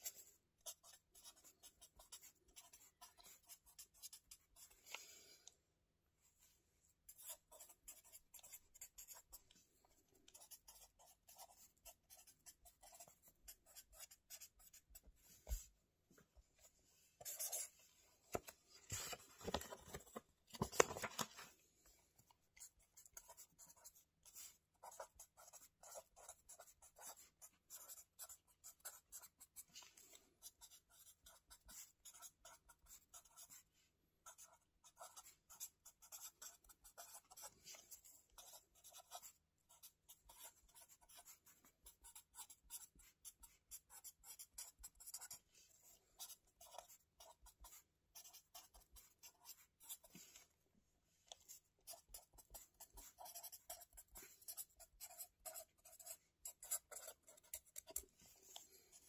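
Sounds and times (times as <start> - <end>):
pen scratching on paper: 0.0 - 4.9, 7.1 - 9.6, 10.3 - 15.7, 17.2 - 17.8, 22.4 - 50.5, 51.3 - 59.0.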